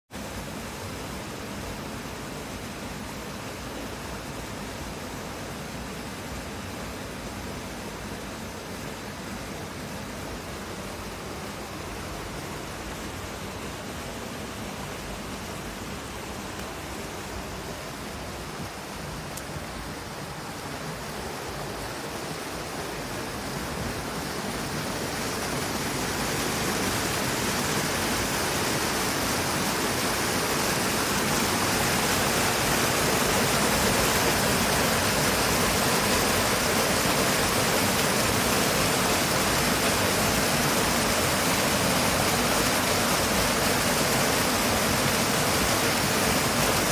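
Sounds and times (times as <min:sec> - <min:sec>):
water rushing over rocks: 0:00.2 - 0:46.9.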